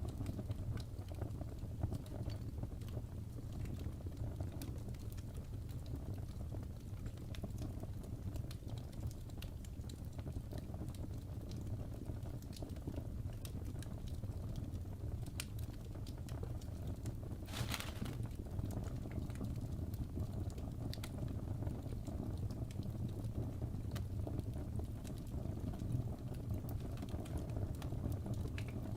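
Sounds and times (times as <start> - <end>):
wood fire crackling and popping: 0.0 - 28.9
fire low rumble: 0.1 - 28.9.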